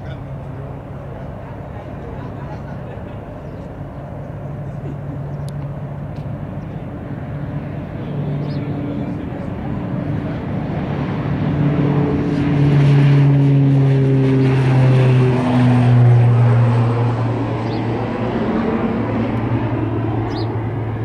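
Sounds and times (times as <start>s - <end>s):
propeller plane drone: 0.0s - 21.0s.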